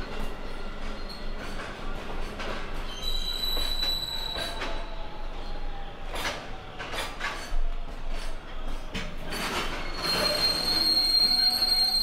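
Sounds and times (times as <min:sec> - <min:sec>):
train wheel squeal: 0:00.0 - 0:08.4, 0:09.3 - 0:12.0.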